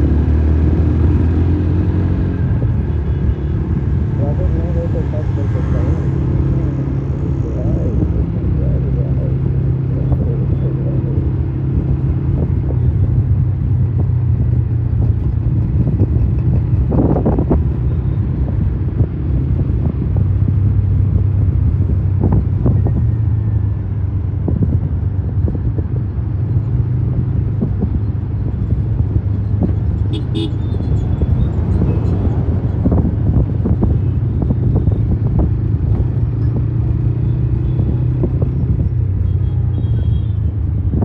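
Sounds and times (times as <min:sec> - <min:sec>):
motorcycle engine running: 0:00.0 - 0:41.0
road and wind noise: 0:00.0 - 0:41.0.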